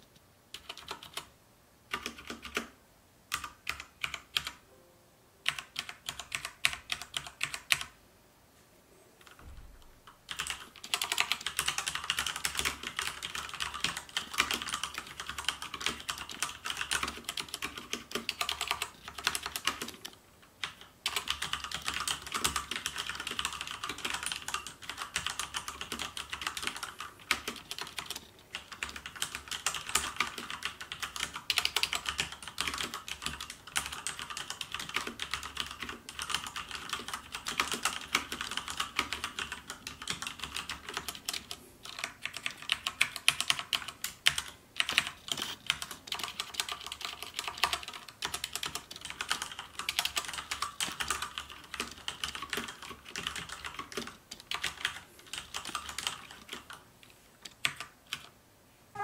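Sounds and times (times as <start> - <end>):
mechanical keyboard typing: 0.5 - 1.3, 1.9 - 4.6, 5.4 - 8.0, 9.2 - 56.8, 57.4 - 58.3.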